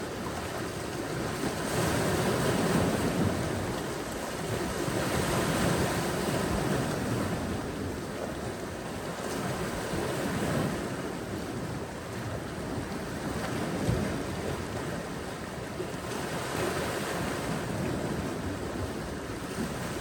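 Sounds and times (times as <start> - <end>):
ocean waves washing onto beach: 0.0 - 20.0
wind rumble on microphone: 0.0 - 20.0.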